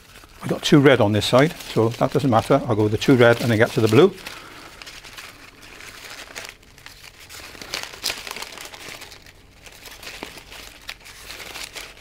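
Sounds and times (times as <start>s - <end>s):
ribbon crinkling: 0.0s - 12.0s.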